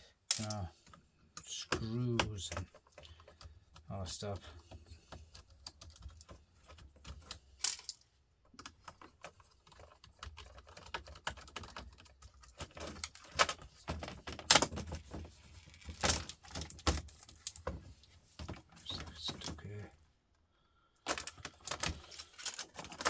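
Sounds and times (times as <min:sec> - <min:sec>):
plastic parts and screws rattling: 0:00.3 - 0:20.0, 0:21.0 - 0:23.0.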